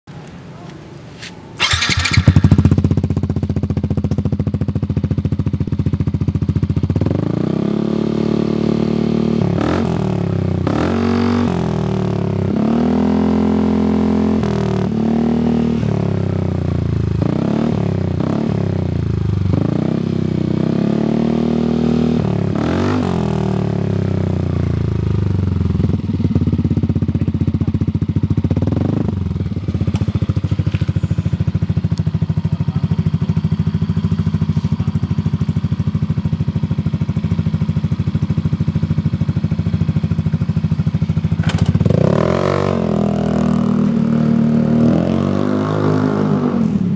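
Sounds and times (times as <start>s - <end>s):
scooter engine idling and revving: 1.5s - 46.9s.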